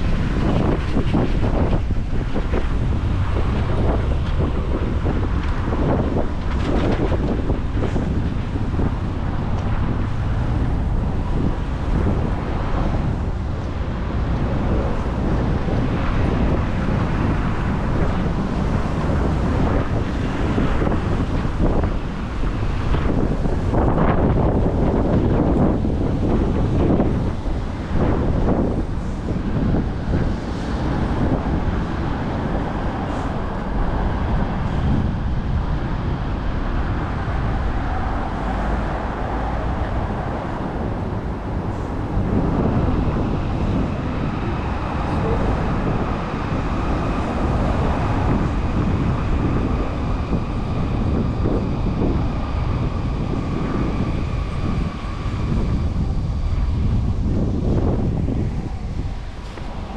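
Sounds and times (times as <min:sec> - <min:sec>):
city street traffic: 0:00.0 - 0:59.9
wind buffeting microphone: 0:00.0 - 0:59.9.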